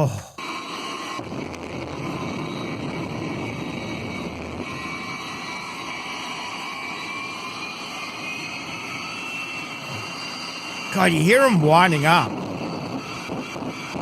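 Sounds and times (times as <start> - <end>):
jet engine spooling up: 0.4 - 14.0.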